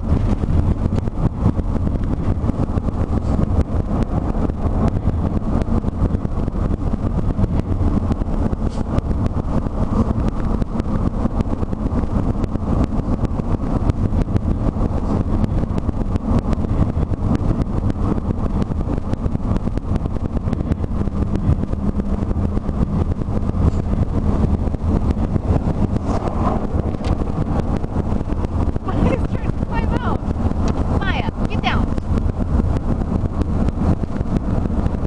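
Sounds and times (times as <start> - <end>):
road and engine rumble: 0.0 - 35.0
wind buffeting microphone: 0.0 - 35.0.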